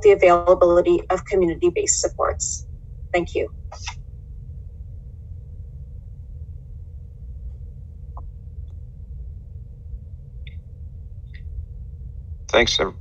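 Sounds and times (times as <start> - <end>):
faint hum: 0.0 - 13.0
low room rumble: 0.0 - 13.0.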